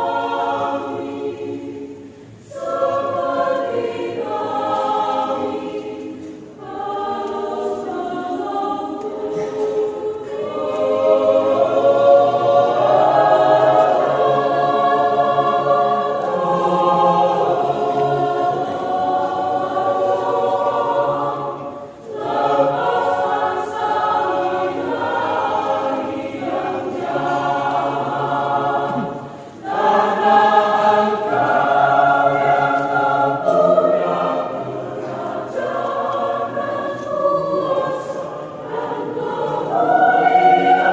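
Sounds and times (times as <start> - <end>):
mixed choir singing: 0.0 - 40.9.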